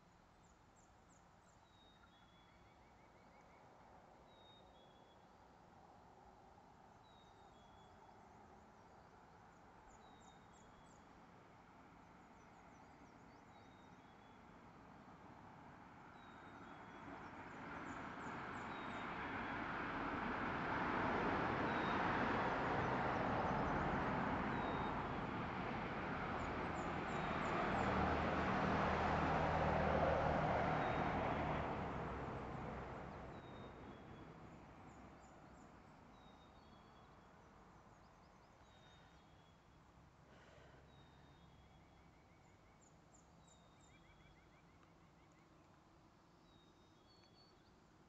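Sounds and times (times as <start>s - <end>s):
distant traffic on a bridge: 0.0s - 48.0s.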